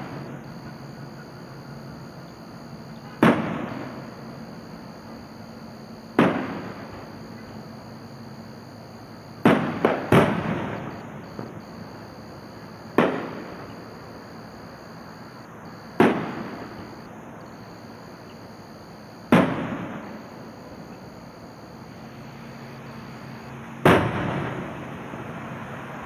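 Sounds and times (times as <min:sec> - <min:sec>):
distant fireworks booms: 0:00.0 - 0:25.2.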